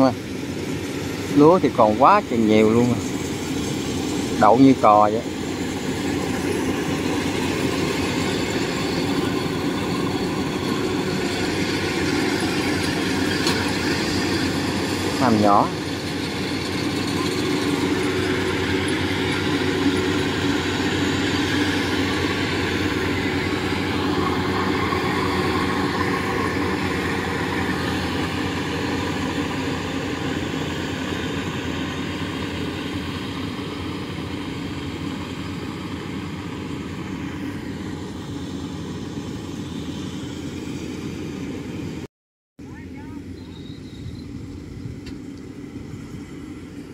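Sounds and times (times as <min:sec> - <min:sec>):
combine harvesters running: 0:00.0 - 0:46.9.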